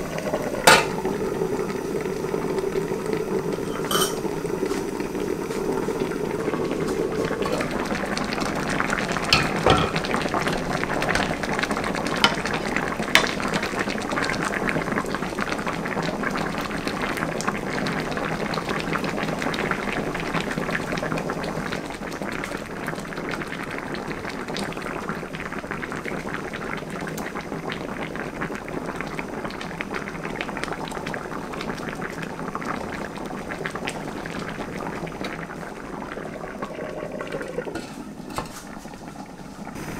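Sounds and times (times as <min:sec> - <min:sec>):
stew bubbling: 0:00.0 - 0:39.8.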